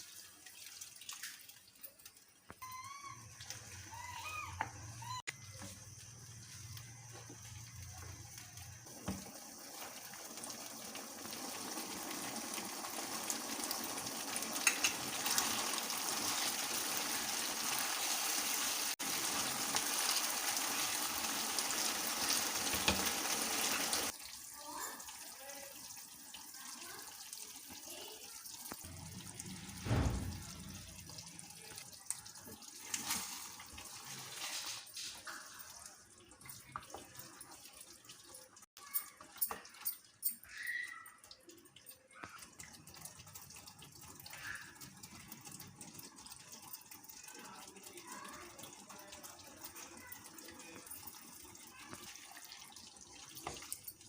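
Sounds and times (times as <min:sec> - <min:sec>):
water running: 0:00.0 - 0:54.0.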